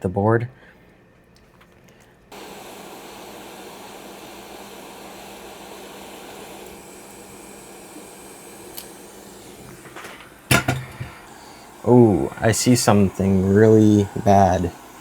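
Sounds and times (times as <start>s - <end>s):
hot air station hissing: 2.3s - 15.0s.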